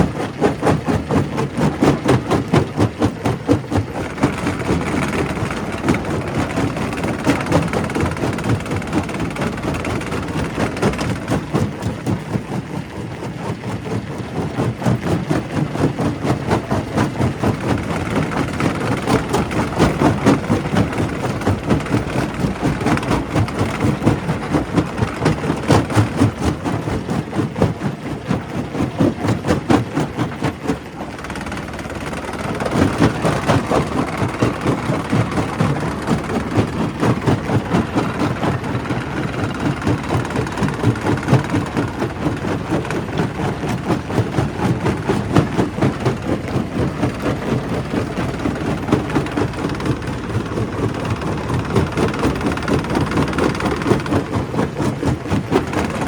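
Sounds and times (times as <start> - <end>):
rock crusher running: 0.0 - 56.0.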